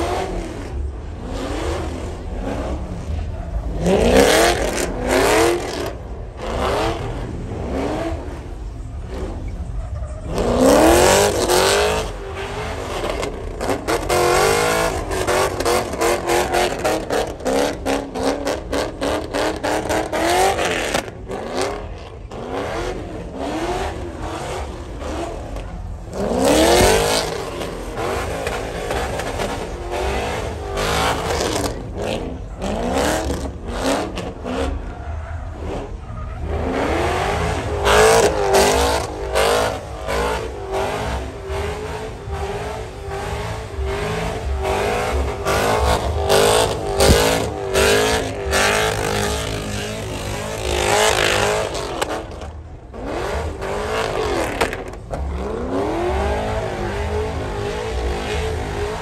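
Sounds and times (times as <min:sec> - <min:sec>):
car engine revving hard: 0:00.0 - 0:59.0
tyres spinning on asphalt: 0:00.0 - 0:59.0.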